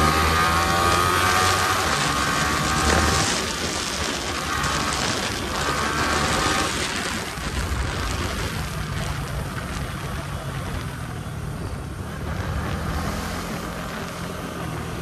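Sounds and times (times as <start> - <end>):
motorcycle engine running: 0.0 - 15.0
wind rush over microphone: 0.0 - 15.0.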